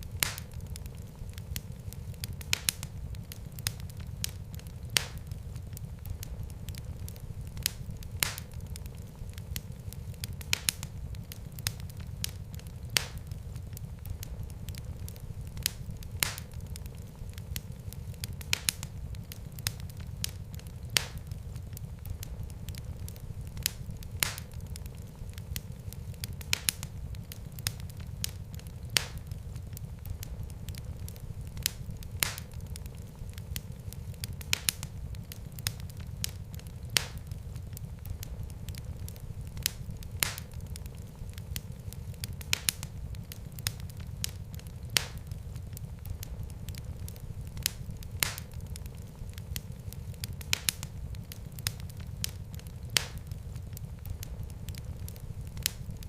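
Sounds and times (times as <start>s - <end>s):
fire crackles and pops: 0.0s - 56.0s
fire rumbling in fireplace: 0.0s - 56.0s.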